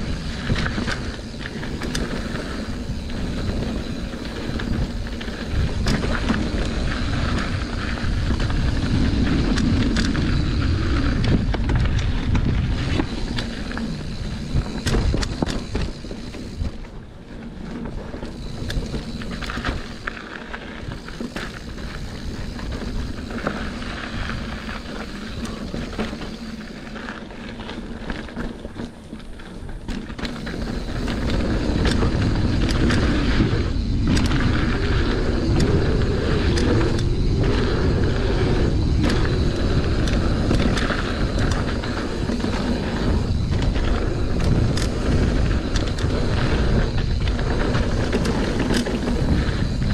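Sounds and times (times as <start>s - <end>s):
bike clattering over bumps: 0.0s - 17.0s, 17.6s - 49.9s
tyres rolling on dirt: 0.0s - 49.9s
wind buffeting microphone: 0.0s - 49.9s.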